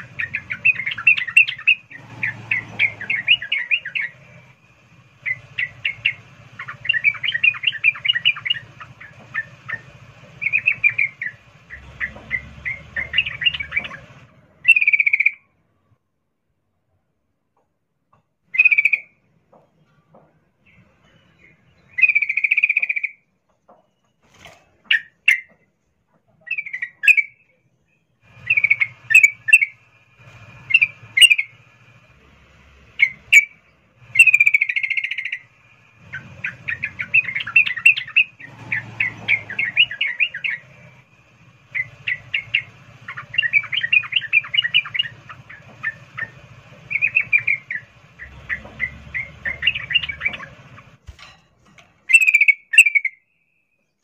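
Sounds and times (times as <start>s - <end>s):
bird chirping: 0.0s - 15.6s, 18.4s - 51.0s, 52.0s - 54.0s.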